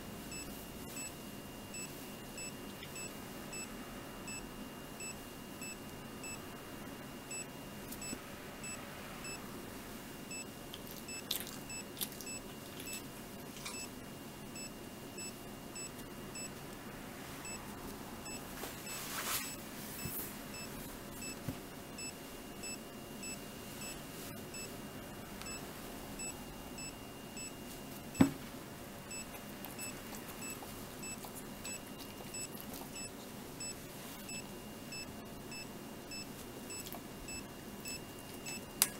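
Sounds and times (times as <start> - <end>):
heart monitor beeps: 0.3 - 3.7, 4.3 - 6.4, 7.3 - 9.4, 10.3 - 10.5, 11.1 - 13.0, 14.6 - 16.6, 17.4 - 24.7, 25.4 - 28.4, 29.1 - 38.8.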